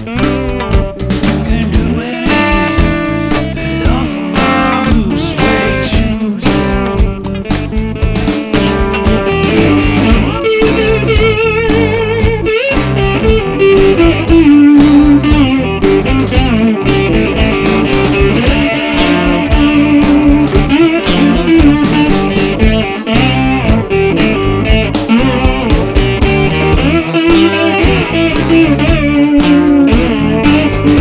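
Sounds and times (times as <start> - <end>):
bass notes: 0.0 - 31.0
electric guitar solo: 0.0 - 31.0
steady drum beat: 0.0 - 31.0.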